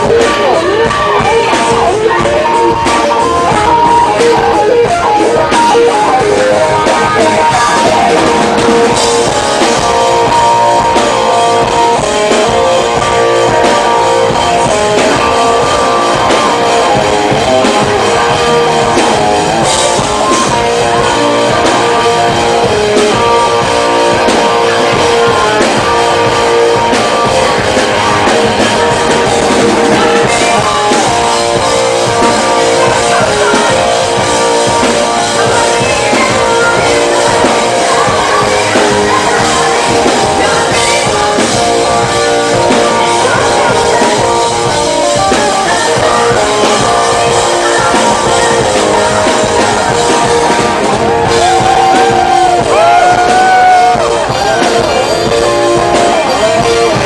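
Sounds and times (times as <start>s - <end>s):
drum kit: 0.0s - 57.0s
electric guitar: 0.0s - 57.0s
live rock band playing: 0.0s - 57.0s
woman singing: 0.0s - 57.0s.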